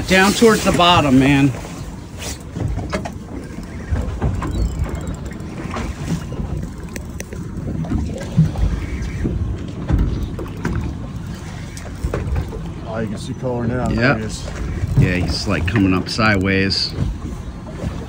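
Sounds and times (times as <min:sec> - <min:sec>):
water against boat hull: 0:00.0 - 0:18.0.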